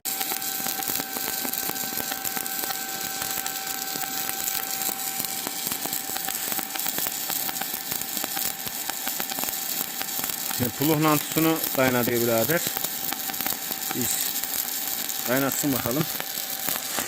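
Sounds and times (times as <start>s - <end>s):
welding arc crackling: 0.0s - 17.0s
faint steady whine: 0.1s - 17.0s.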